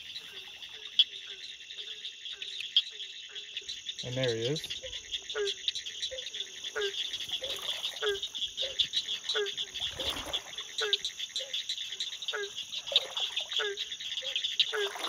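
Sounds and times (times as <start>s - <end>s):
frog deep call: 0.0s - 15.0s.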